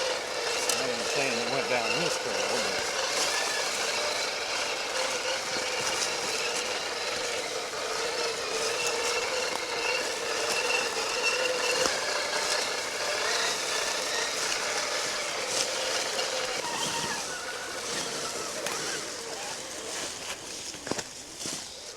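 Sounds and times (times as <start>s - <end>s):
toy truck motors whining: 0.0s - 21.9s.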